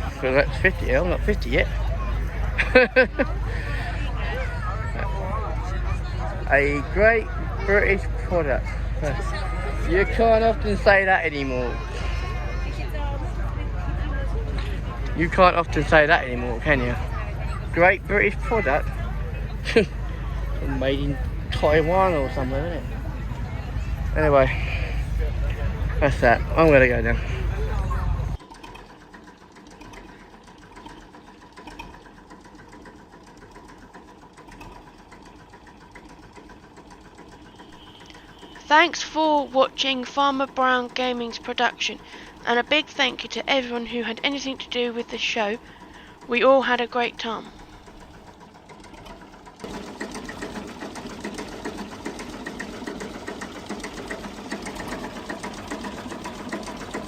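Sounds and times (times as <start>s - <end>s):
machine clattering: 0.0s - 12.8s, 13.4s - 57.0s
engine running with fast ticking: 0.0s - 57.0s.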